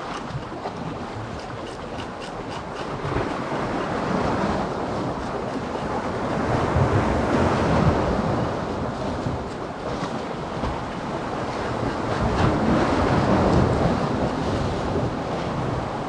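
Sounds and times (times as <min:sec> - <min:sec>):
sea waves breaking on shore: 0:00.0 - 0:16.0
wind buffeting microphone: 0:00.0 - 0:16.0.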